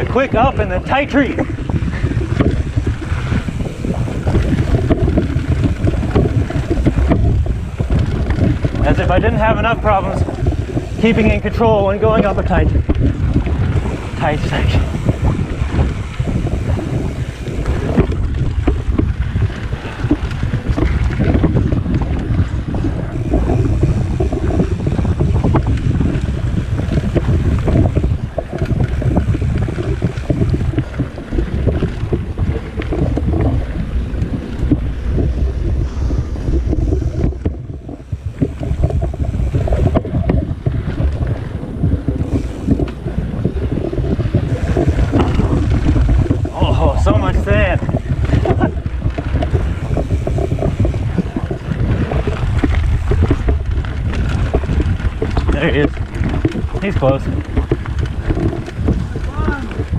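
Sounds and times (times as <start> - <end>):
bike rattles and clicks: 0.0 - 59.9
tyres rolling on dirt: 0.0 - 59.9
wind rumbling on microphone: 0.0 - 59.9.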